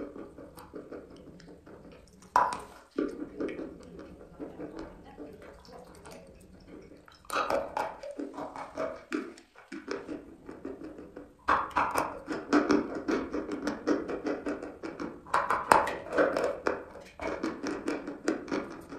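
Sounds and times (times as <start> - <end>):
chalk chewing crackling: 0.0 - 15.3.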